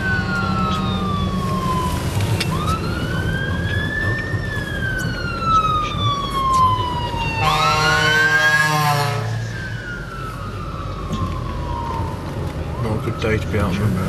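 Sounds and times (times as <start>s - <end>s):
fire engine siren wailing: 0.0s - 14.0s.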